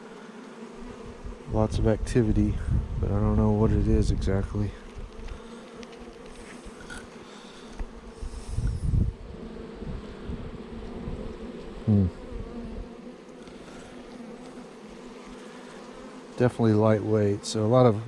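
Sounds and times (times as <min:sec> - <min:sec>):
honeybees buzzing: 0:00.0 - 0:18.0
single bee buzzing past: 0:00.0 - 0:18.0.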